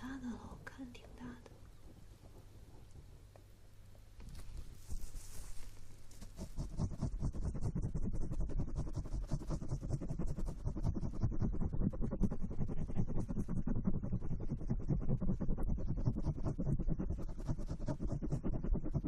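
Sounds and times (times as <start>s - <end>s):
scratching against microphone: 0.4s - 3.3s, 4.2s - 19.0s.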